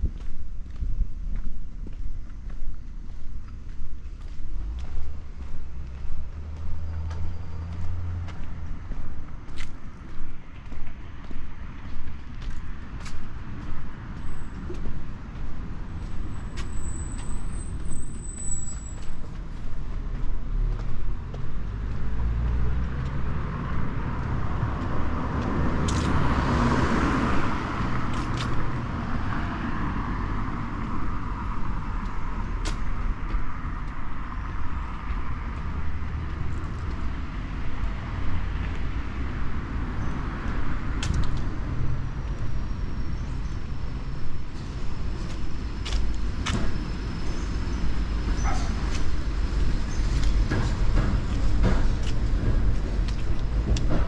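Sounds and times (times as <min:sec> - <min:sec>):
rumble of car traffic: 0:00.0 - 0:54.0.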